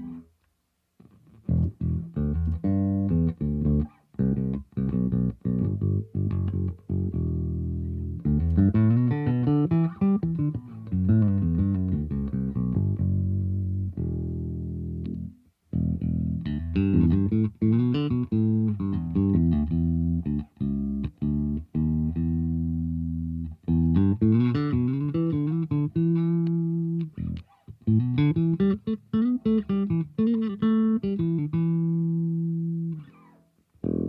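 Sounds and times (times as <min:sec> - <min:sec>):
electric bass guitar notes: 0:00.0 - 0:00.3, 0:01.2 - 0:34.0.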